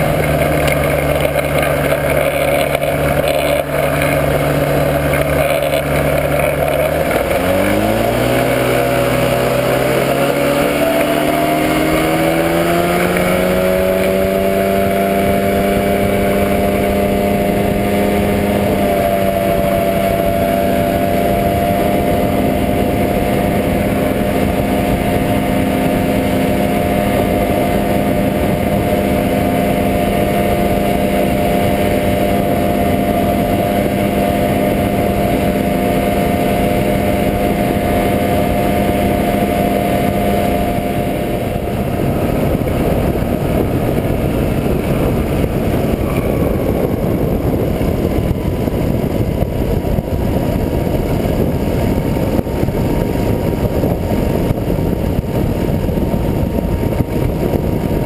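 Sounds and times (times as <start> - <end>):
two-stroke engine running steadily: 0.0 - 58.0
wind noise on microphone: 0.0 - 58.0.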